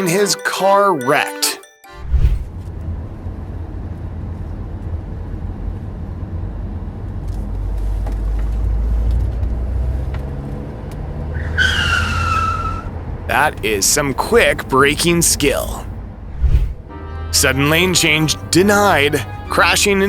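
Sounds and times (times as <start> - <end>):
vehicle engine and road rumble: 2.0 - 20.0.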